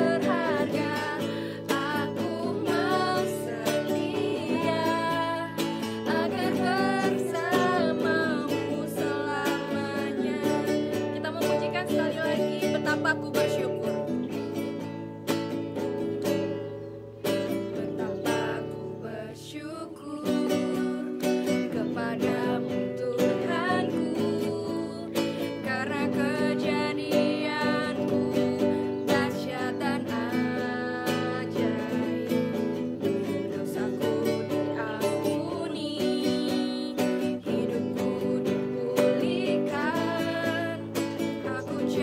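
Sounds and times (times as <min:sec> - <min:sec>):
women singing together: 0:00.0 - 0:14.2, 0:17.5 - 0:42.0.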